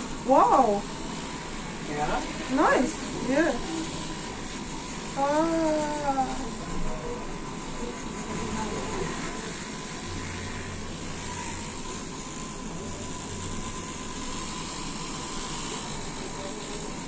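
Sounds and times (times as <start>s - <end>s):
electric massager buzzing: 0.0s - 17.0s.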